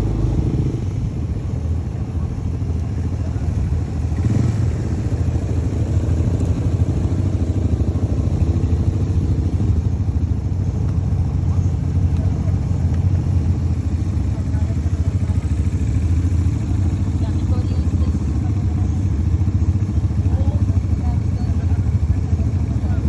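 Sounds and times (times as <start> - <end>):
quad bikes driving past: 0.0 - 23.0.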